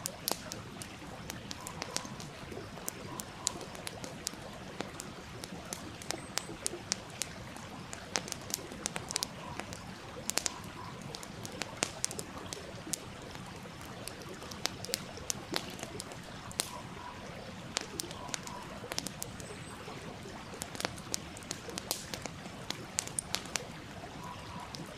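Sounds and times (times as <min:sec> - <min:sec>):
campfire crackling: 0:00.0 - 0:24.9.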